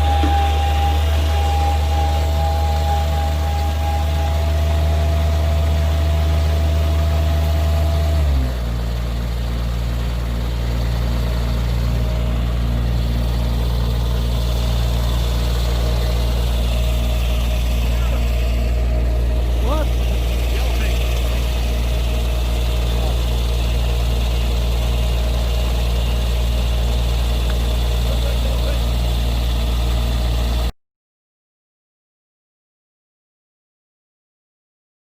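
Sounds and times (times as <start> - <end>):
vehicle engine humming: 0.0 - 30.7.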